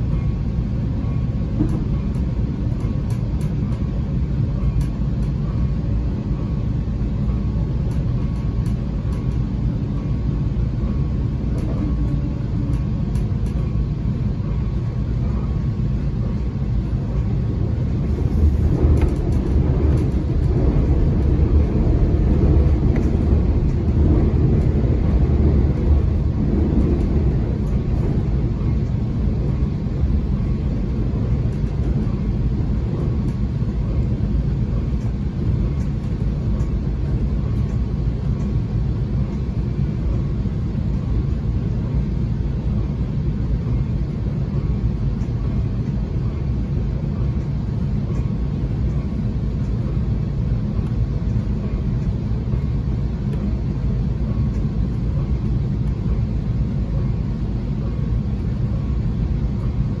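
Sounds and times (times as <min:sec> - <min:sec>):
faint steady whine: 0:00.0 - 1:00.0
train wheels rumbling on rail: 0:00.0 - 1:00.0.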